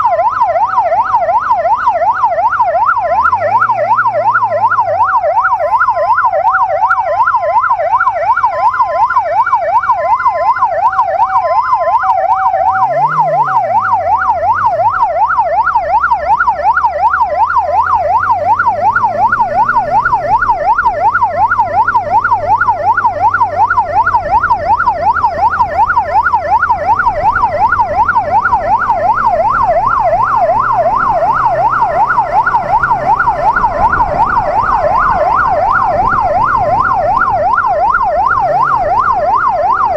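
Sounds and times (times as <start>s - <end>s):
two-tone siren: 0.0s - 39.9s
yelping electronic siren: 0.0s - 39.9s.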